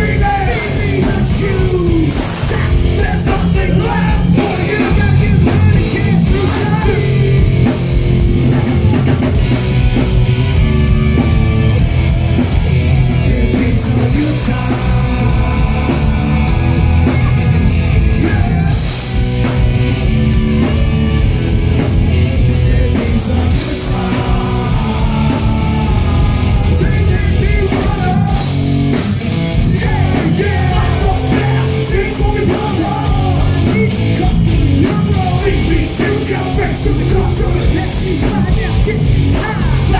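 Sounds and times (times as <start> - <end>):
drum kit: 0.0 - 39.9
electric bass: 0.0 - 39.9
electric guitar: 0.0 - 39.9
shouted lead vocal: 0.0 - 39.9.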